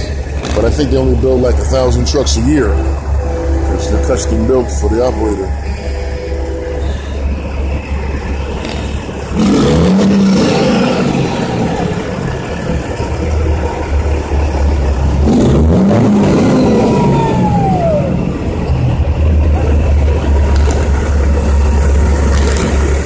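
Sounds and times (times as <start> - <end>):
steady low rumble: 0.0 - 23.0
vehicle engine revving: 0.0 - 23.0
tone gliding downward: 2.0 - 21.8.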